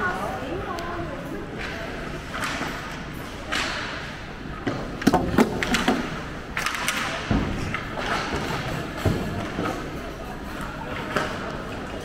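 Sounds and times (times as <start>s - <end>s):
stick and puck clacks: 1.6s - 4.0s, 4.6s - 12.0s.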